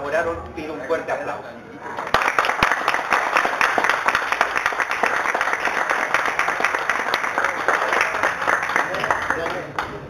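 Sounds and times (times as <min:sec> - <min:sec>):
group applauding: 0:01.9 - 0:10.0.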